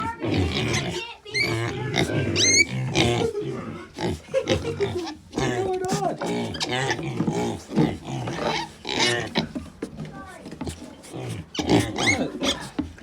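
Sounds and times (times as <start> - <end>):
piglets grunting and squealing: 0.0 - 13.0.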